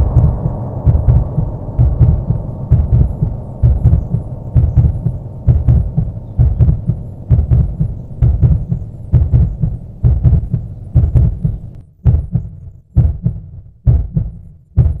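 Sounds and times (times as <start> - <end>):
thudding heartbeat-like pulse: 0.0 - 15.0.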